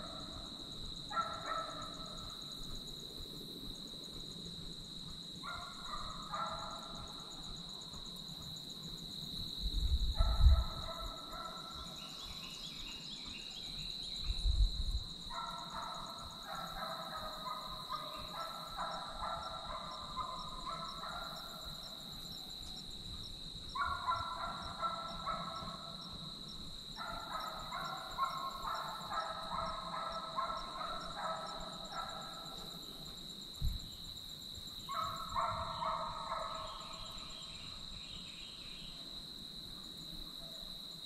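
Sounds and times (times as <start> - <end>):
hounds baying in the distance: 0.0 - 2.8, 5.4 - 8.5, 10.1 - 13.9, 15.1 - 33.4, 34.4 - 39.2, 39.9 - 41.0.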